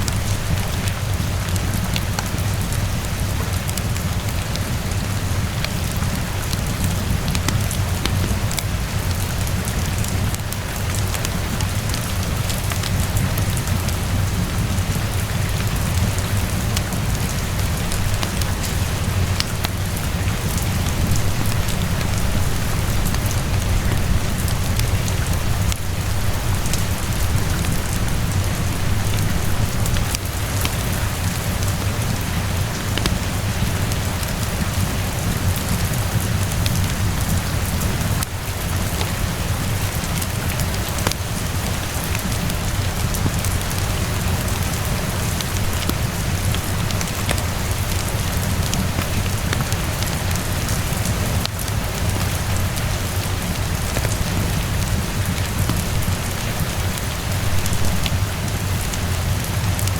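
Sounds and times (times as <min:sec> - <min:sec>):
fire crackling: 0:00.0 - 0:59.9
steady rainfall: 0:00.0 - 0:59.9.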